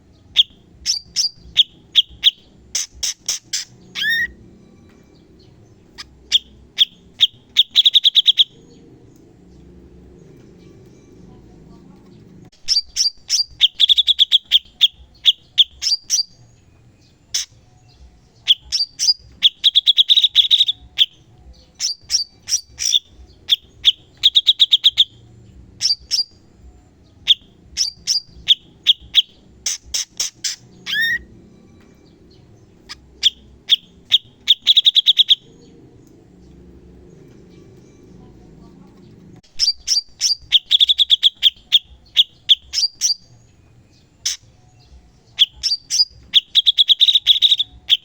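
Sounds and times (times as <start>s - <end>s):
bird song with rapid trills: 0.0s - 48.0s.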